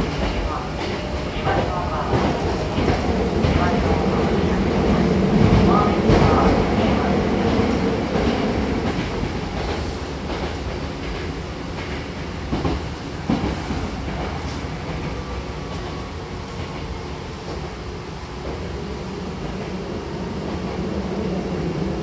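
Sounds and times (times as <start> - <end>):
train running on rails: 0.0 - 22.0.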